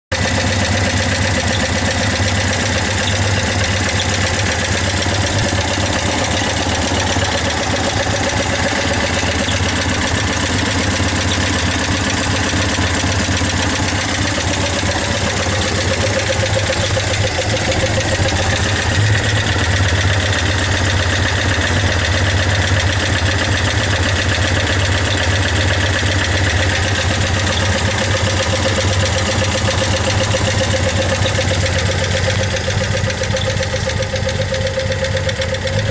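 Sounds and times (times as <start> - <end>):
engine idling: 0.1 - 35.9.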